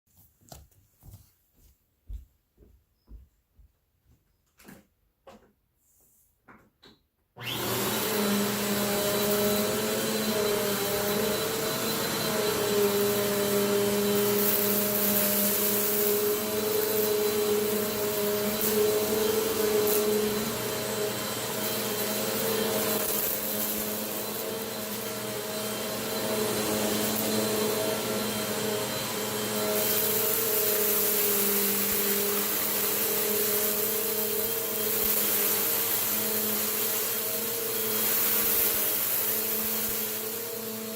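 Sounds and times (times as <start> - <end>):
vacuum cleaner motor humming: 7.4 - 40.9
vacuum cleaner switch: 7.4 - 40.9
vacuum sucking up crunchy dirt: 7.4 - 40.9.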